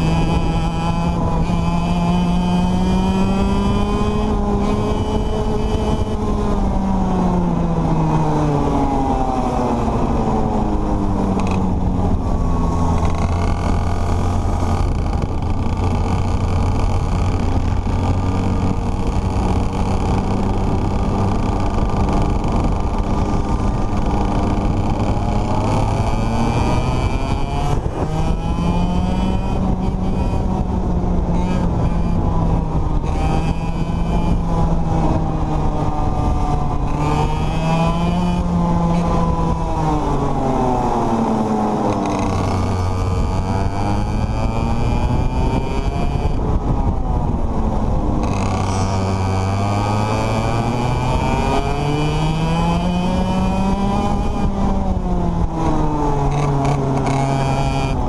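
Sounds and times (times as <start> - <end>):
racing kart engine: 0.0 - 58.0.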